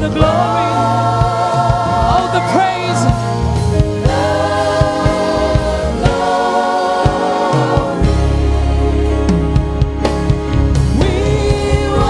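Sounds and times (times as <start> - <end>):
band with bass and drums: 0.0 - 12.0
gospel choir singing: 0.0 - 12.0.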